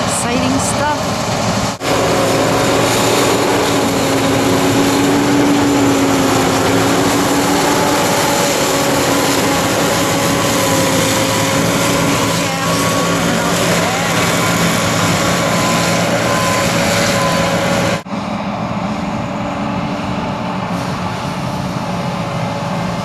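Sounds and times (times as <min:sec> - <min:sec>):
combine harvester drone: 0:00.0 - 0:23.0.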